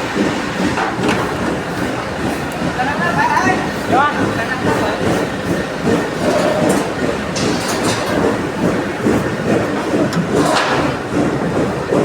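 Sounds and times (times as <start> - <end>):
heavy machinery rumble and rattle: 0.0 - 12.0.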